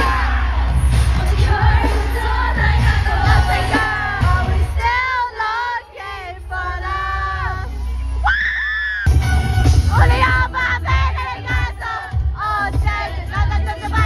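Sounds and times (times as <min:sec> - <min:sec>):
amplified pop music with bass: 0:00.0 - 0:14.0.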